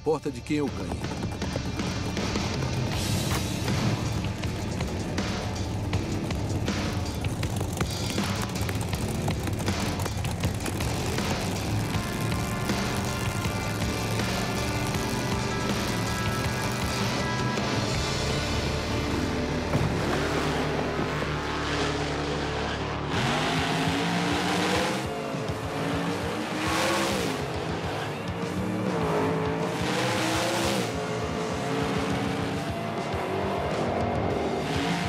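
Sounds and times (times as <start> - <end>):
music: 0.0 - 35.0
race car engines accelerating: 0.0 - 35.0.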